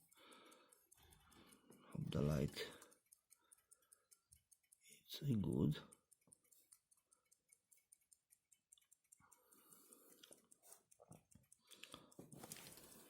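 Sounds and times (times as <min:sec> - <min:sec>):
pocket watch ticking: 0:00.0 - 0:13.0.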